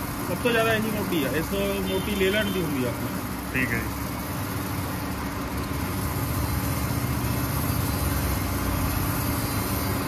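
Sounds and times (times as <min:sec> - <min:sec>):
grinding hiss: 0:00.0 - 0:10.0
grinding machine hum: 0:00.0 - 0:10.0.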